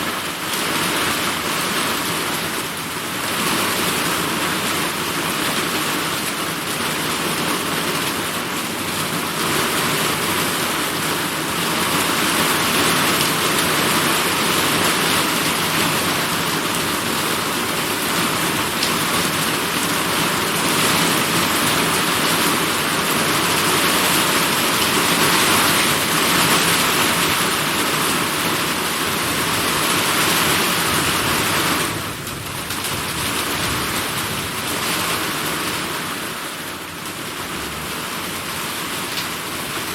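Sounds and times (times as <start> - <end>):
rain pouring: 0.0 - 39.9.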